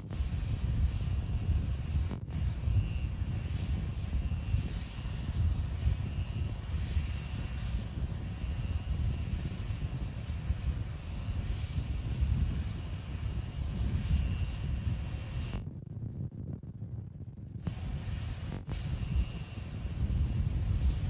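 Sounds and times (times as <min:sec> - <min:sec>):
distant rocket engine rumble: 0:00.0 - 0:21.0.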